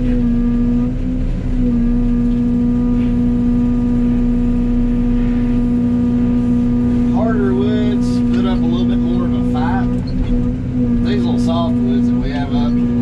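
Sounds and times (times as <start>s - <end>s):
diesel engine: 0.0s - 13.0s
mulcher head hydraulic whine: 0.0s - 13.0s.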